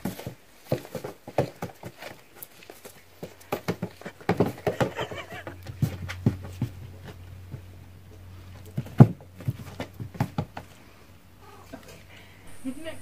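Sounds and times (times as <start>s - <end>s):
monkeys scampering on plastic lid: 0.0s - 12.1s.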